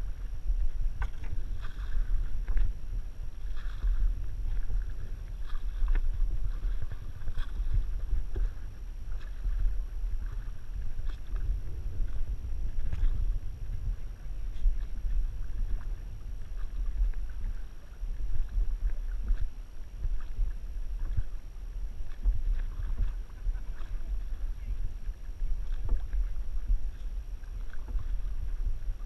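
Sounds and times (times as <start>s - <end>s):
faint paddle splashes: 0.0s - 29.0s
wind buffeting the microphone: 0.0s - 29.0s.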